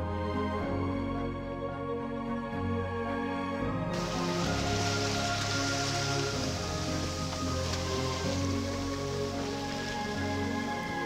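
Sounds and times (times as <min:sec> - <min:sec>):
calm music with held notes: 0:00.0 - 0:11.0.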